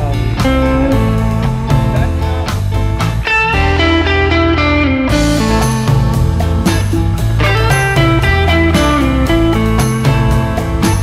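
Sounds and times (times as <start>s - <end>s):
rock music with electric guitar: 0.0s - 11.0s.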